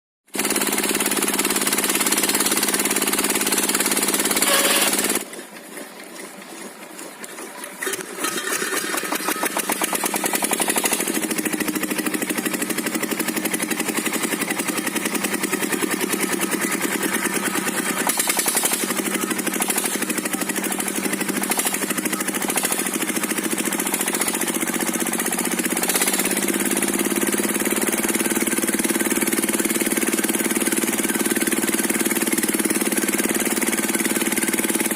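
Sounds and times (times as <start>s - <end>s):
diesel engine chugging: 0.3s - 34.9s.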